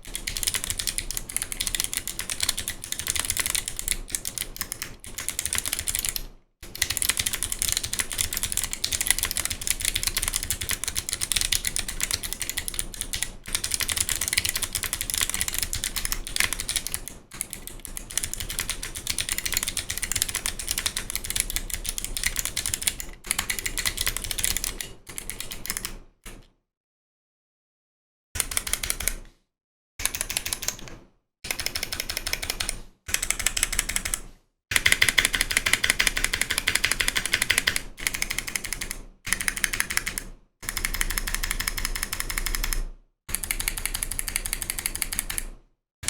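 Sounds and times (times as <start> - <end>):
fast typing on mechanical keyboard: 0.0 - 26.0, 28.4 - 29.2, 30.0 - 30.9, 31.5 - 45.5.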